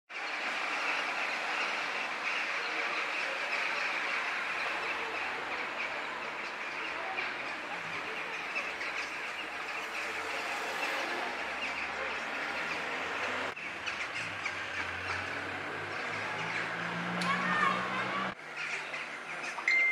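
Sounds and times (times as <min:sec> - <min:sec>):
flock of birds chattering: 0:00.1 - 0:19.9.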